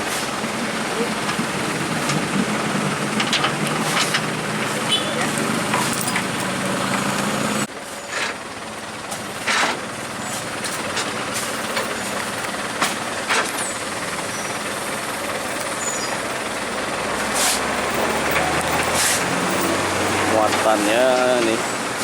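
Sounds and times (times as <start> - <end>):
low engine hum: 0.0 - 22.0
road traffic rushing: 0.0 - 22.0.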